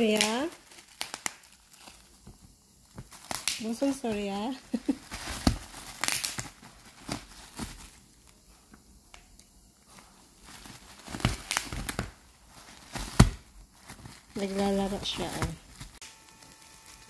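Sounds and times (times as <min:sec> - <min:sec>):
bubble wrap crinkling: 0:00.0 - 0:09.2, 0:09.8 - 0:17.0.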